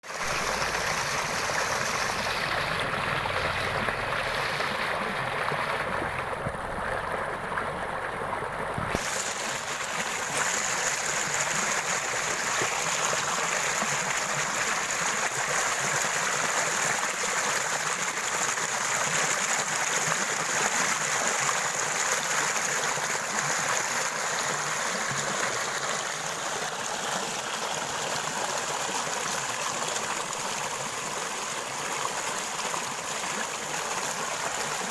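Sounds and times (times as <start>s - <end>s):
water flowing: 0.0s - 34.9s.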